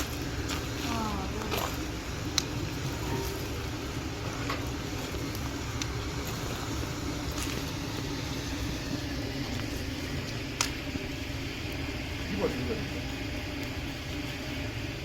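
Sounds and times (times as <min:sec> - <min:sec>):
campfire rumble: 0:00.0 - 0:15.0
fire crackles and pops: 0:00.0 - 0:15.0.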